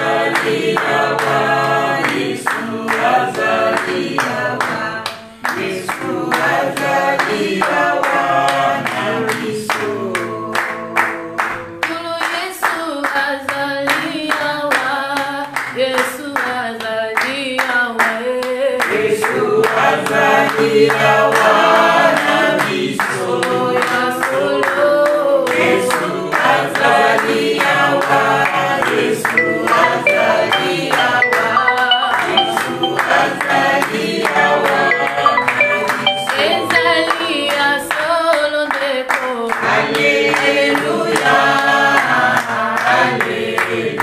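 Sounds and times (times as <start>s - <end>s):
group singing worship song: 0.0s - 44.0s
rhythmic hand clapping: 0.0s - 44.0s.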